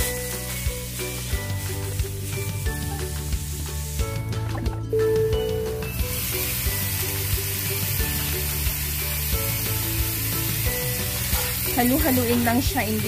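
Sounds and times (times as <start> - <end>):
meat sizzling in a pan: 0.0 - 4.5, 5.8 - 13.0
background music: 0.0 - 13.0.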